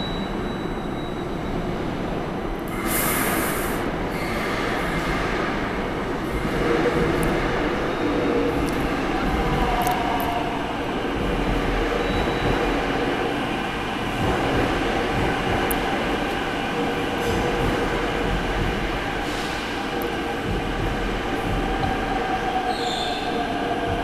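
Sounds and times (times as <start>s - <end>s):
train wheels and motors rumbling: 2.1s - 24.0s.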